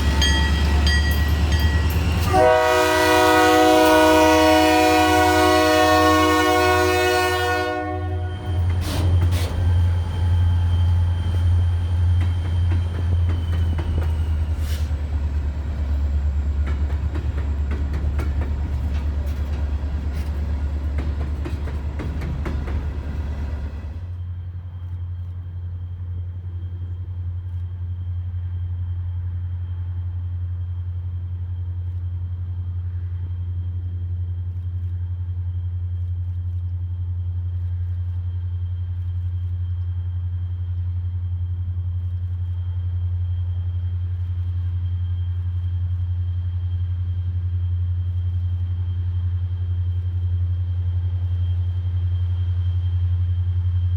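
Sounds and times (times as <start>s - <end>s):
train rumbling past: 0.0s - 35.8s, 37.0s - 53.9s.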